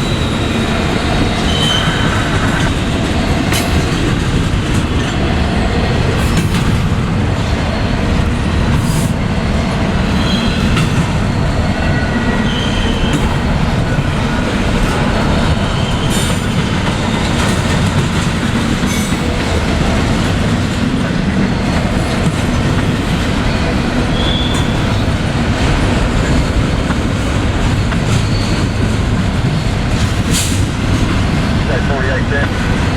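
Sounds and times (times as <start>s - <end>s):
train wheels rumbling on rail: 0.0s - 32.9s.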